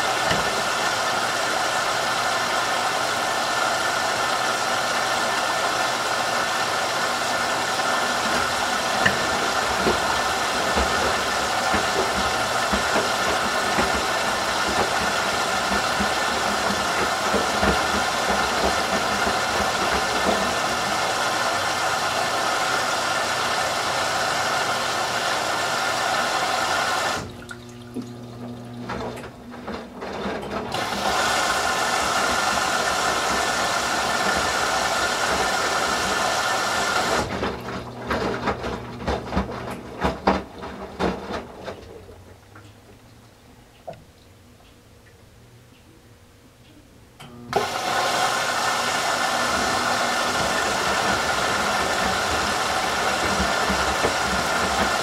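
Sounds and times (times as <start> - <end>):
washer drum tumbling: 0.0 - 3.3, 6.3 - 42.6, 47.5 - 55.0
water rushing into washer: 0.0 - 42.7, 47.5 - 55.0
washer hum: 0.0 - 55.0.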